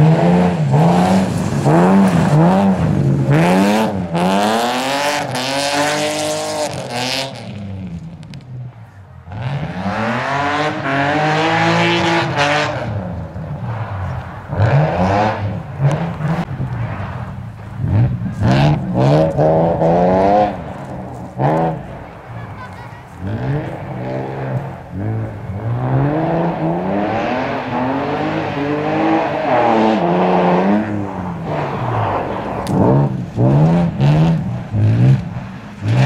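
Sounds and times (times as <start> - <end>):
car engine revving hard: 0.0 - 7.6, 9.3 - 16.5, 17.8 - 22.2, 23.2 - 36.0.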